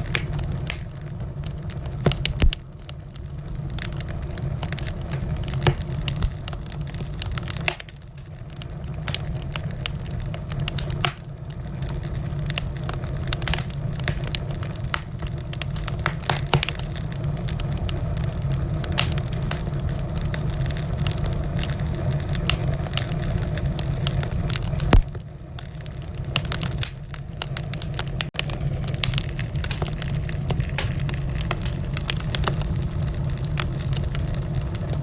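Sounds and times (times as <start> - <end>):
logs popping: 0.0 - 2.8, 3.7 - 11.3, 12.0 - 17.2, 20.3 - 25.2, 26.3 - 34.4
fire flames rumbling: 0.0 - 35.0
wood fire crackling: 0.0 - 35.0.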